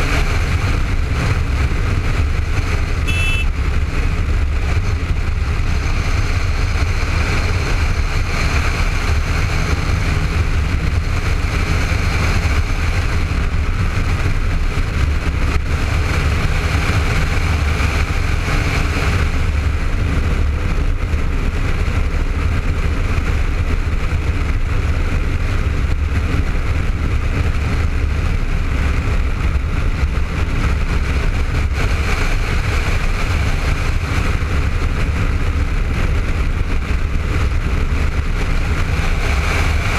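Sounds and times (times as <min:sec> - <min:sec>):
motorcycle engine drone: 0:00.0 - 0:39.9
wind rush on camera: 0:00.0 - 0:39.9.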